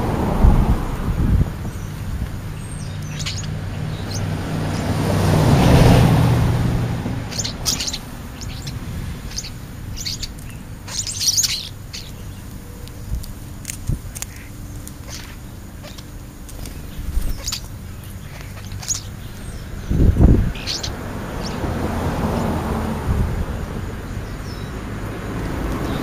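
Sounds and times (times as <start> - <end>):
passing vehicle engine hum: 0.0 - 26.0
starlings chirping: 1.0 - 22.8, 23.6 - 26.0.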